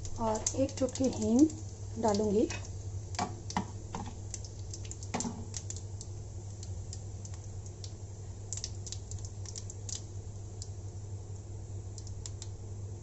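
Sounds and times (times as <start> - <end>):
seeds popping in hot oil: 0.0 - 12.8
steady low hum: 0.0 - 13.0.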